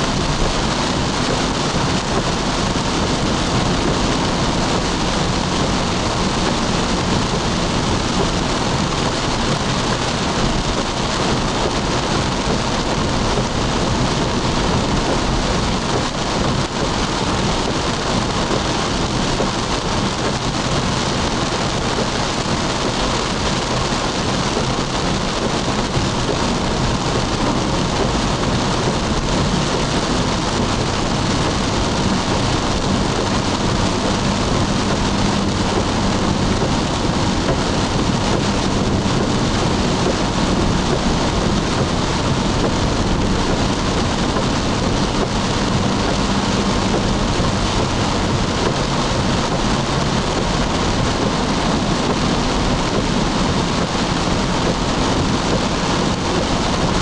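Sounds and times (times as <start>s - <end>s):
heavy rain on a car: 0.0s - 57.0s
low rumble: 0.0s - 57.0s
tyre noise on wet road: 0.0s - 57.0s.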